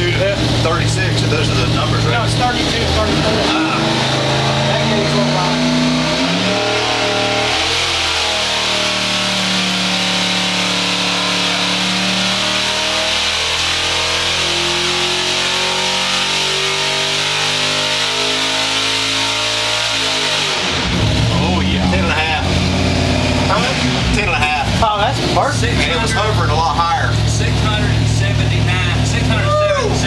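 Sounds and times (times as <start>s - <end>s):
engine running steadily: 0.0s - 16.0s, 20.7s - 30.0s.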